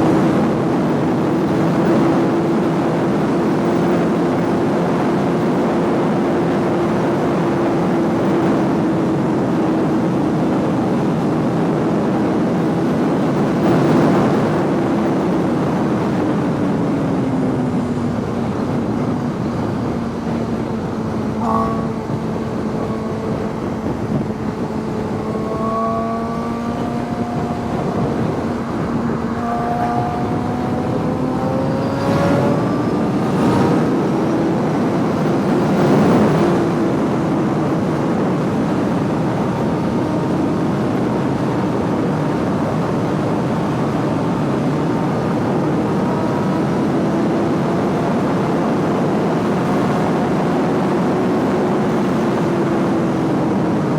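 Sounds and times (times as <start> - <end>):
heavy wind rush: 0.0 - 53.9
motorcycle engine running: 0.0 - 53.9.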